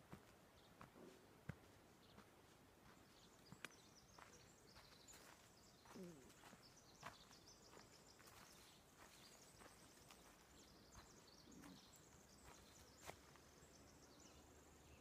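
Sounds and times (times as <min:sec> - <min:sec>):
soft footsteps on dirt trail: 0:00.0 - 0:14.6.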